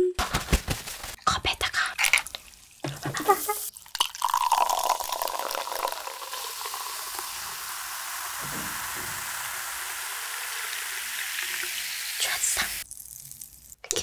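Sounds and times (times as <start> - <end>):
soda fizzing: 1.2 - 14.0
soda pouring into glass: 2.0 - 13.8.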